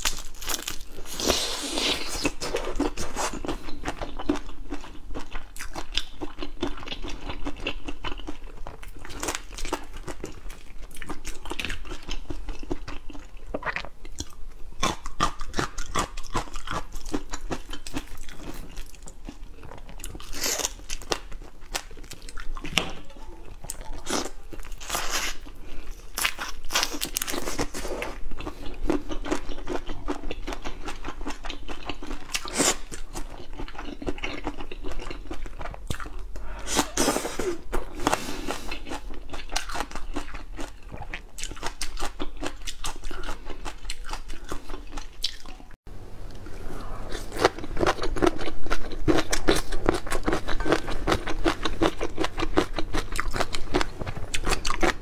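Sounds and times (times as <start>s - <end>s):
person chewing crunchy seafood: 0.0s - 45.8s, 47.0s - 55.0s.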